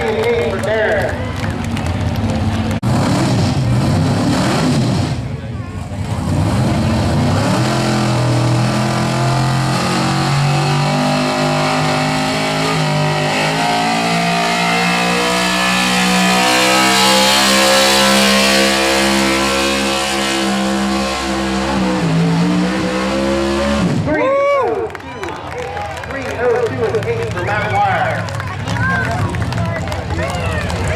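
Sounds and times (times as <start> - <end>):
vehicle engine running hard: 0.0 - 24.3, 25.6 - 30.9.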